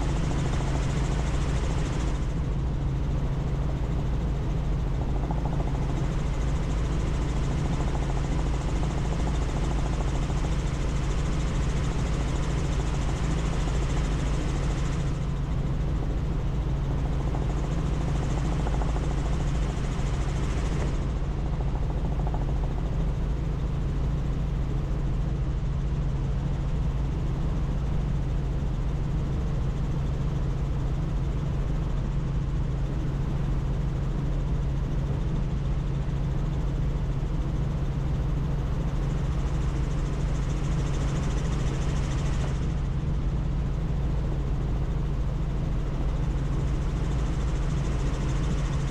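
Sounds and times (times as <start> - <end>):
helicopter rotor and engine drone: 0.0 - 48.9.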